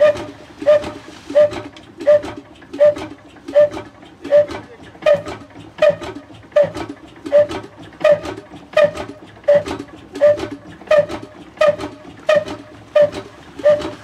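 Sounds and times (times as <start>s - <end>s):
diesel engine turning over slowly: 0.0s - 14.0s.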